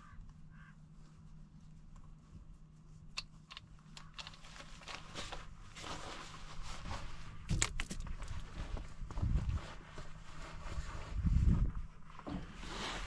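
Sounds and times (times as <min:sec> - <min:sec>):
rustling: 0:00.9 - 0:13.0.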